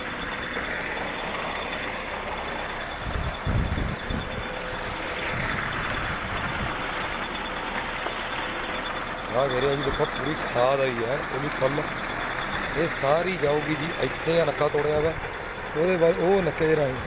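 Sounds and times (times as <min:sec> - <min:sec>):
low rumbles: 0:00.0 - 0:17.0
pump motor hum: 0:00.0 - 0:17.0
water gushing from pipe: 0:00.0 - 0:17.0.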